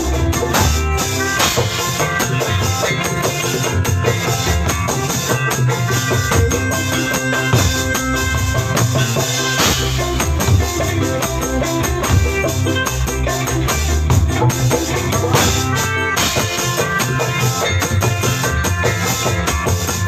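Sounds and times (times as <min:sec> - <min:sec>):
drum kit beat: 0:00.0 - 0:20.0
bass line: 0:03.6 - 0:20.0.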